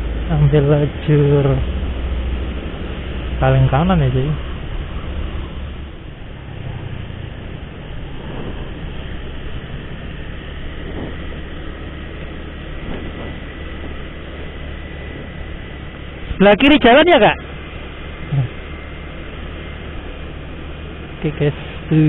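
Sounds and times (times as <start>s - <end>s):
motorcycle engine: 0.0s - 22.0s
road noise: 0.0s - 22.0s
wind: 0.0s - 22.0s.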